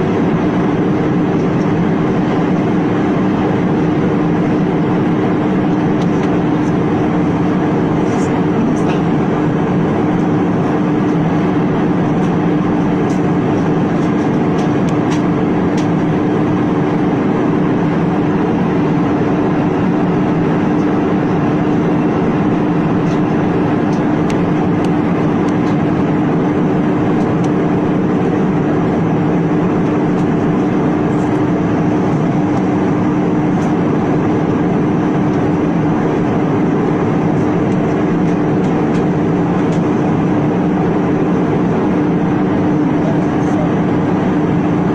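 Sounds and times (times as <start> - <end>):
constant low hum: 0.0 - 44.9
jet engines droning: 0.0 - 44.9.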